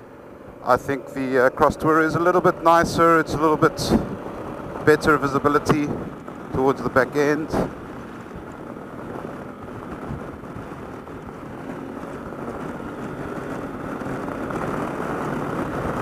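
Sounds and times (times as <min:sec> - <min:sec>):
motorcycle engine accelerating: 0:00.0 - 0:16.0
wind rush over helmet: 0:00.0 - 0:16.0.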